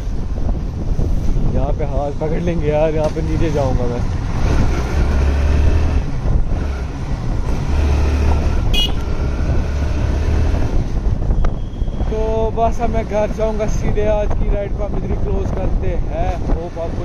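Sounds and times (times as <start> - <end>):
motorcycle engine and road noise: 0.0 - 17.0
wind buffeting microphone: 0.0 - 17.0.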